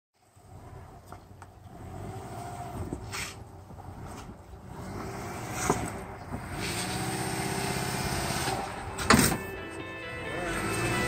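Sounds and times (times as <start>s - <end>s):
car engine running at low revs: 0.2s - 9.0s.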